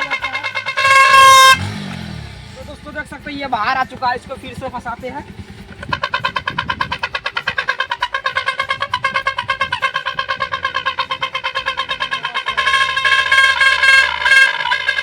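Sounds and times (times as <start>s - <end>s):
exhaust whistle buzzy honk: 0.0s - 15.0s
motorcycle engine running: 0.0s - 15.0s.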